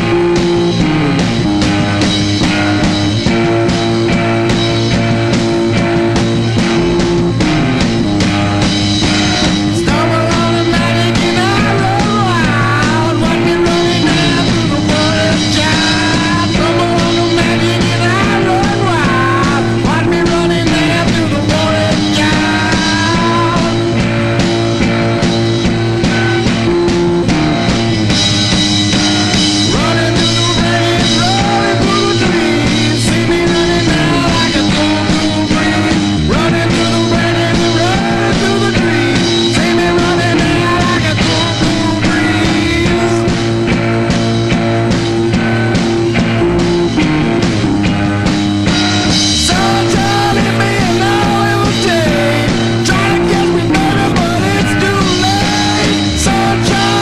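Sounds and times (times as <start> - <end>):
doom metal band playing: 0.0 - 57.0.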